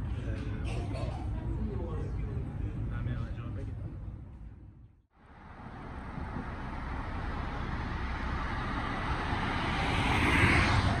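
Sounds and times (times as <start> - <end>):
road traffic rush: 0.0 - 11.0.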